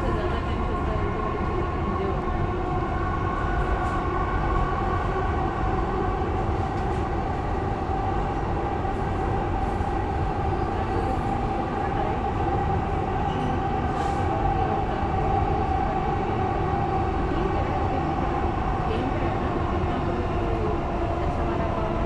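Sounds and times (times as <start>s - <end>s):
train rumble with high whine: 0.0s - 22.0s.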